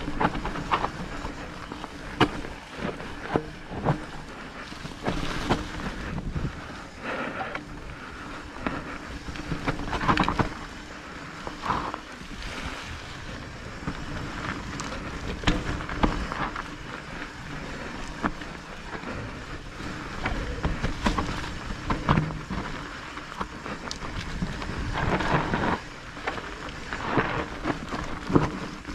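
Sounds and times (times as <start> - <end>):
bike knocks and rattles: 0.0 - 6.6, 7.4 - 28.9
bike tyre noise: 0.0 - 28.9
wind on microphone: 0.0 - 28.9.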